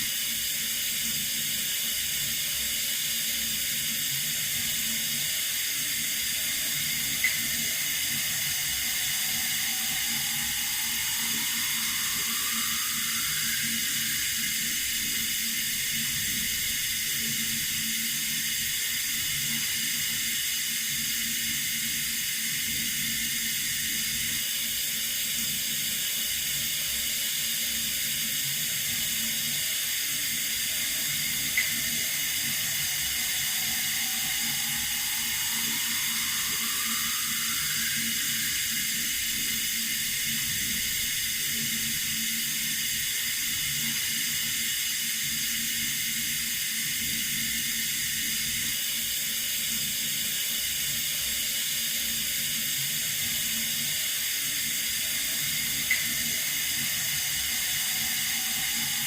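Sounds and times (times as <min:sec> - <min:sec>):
water running from a tap: 0:00.0 - 0:59.0.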